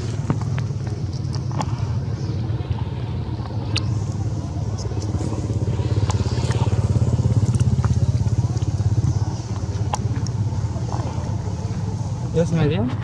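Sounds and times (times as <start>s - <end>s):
small engine running: 0.0s - 12.5s.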